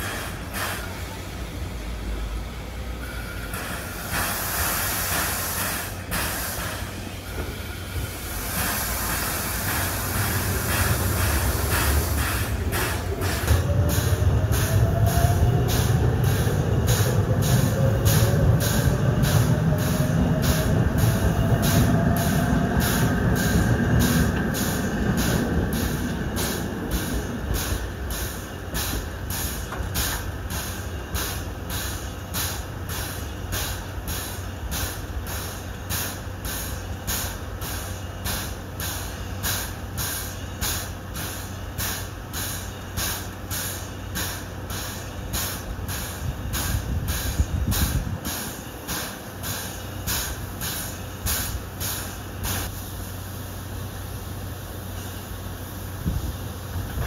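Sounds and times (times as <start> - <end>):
train rumble with rising whine: 0.0 - 57.0.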